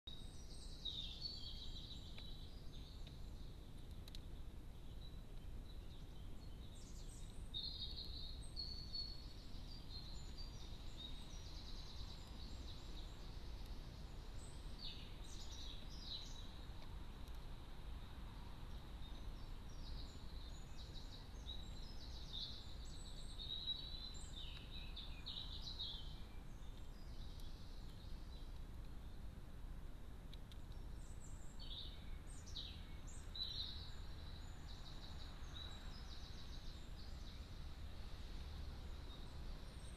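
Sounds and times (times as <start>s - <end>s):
low rumble and hiss: 0.1s - 39.9s
songbirds singing: 0.1s - 39.9s.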